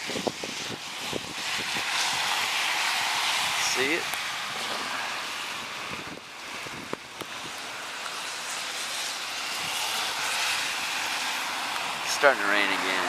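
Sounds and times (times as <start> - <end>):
rain: 0.0 - 13.0
storm wind: 0.0 - 13.0.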